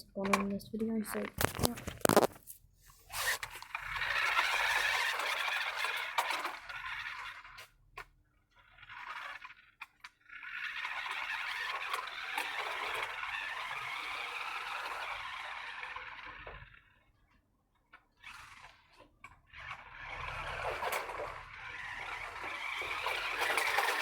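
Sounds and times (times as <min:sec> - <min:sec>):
remote-control car motor: 0:03.0 - 0:24.0.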